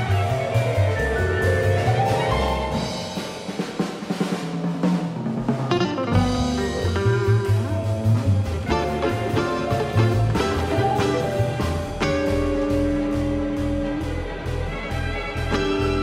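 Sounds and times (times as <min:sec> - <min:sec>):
guitar: 0:00.0 - 0:04.0, 0:05.3 - 0:16.0
drum kit: 0:00.0 - 0:16.0
string orchestra: 0:00.0 - 0:16.0.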